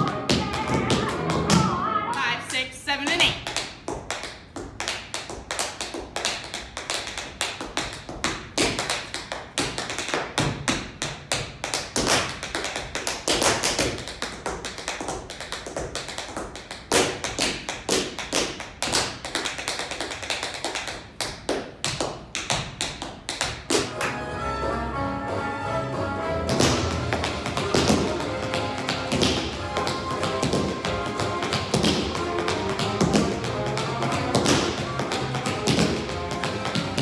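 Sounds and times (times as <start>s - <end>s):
tap shoes on hard floor: 0.0s - 24.2s, 26.5s - 37.0s.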